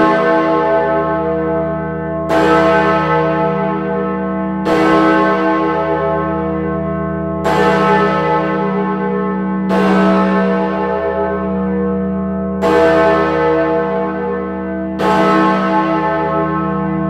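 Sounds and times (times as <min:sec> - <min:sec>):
large bell tolling: 0:00.0 - 0:17.0.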